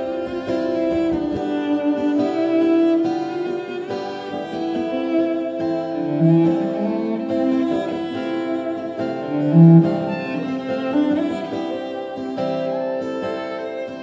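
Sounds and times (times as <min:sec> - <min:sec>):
acoustic guitar strumming: 0:00.0 - 0:14.0
bowed cello long notes: 0:00.0 - 0:14.0.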